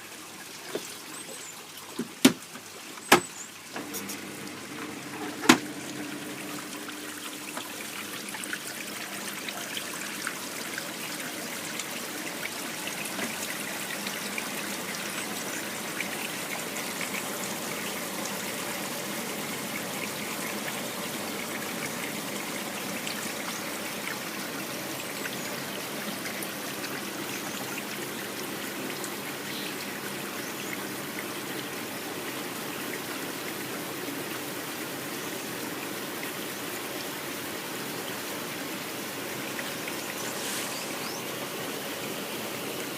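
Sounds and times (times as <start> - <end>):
water running and splashing in tub: 0.0 - 42.9.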